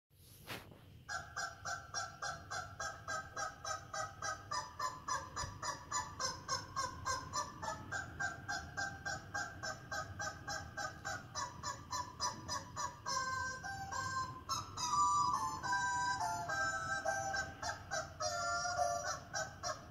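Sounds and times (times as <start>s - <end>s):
chicken calls from tv: 1.1s - 19.9s.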